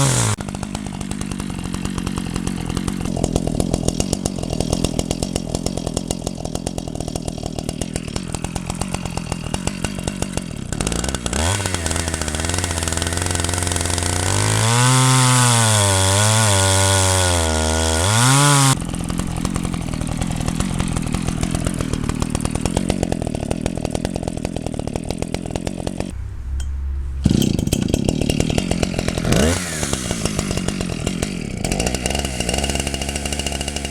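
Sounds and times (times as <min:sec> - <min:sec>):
chainsaw idling and revving: 0:00.0 - 0:33.9.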